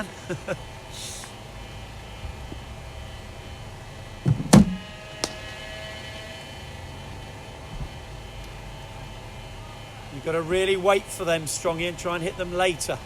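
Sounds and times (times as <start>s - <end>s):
bowling machine humming: 0.0s - 13.0s.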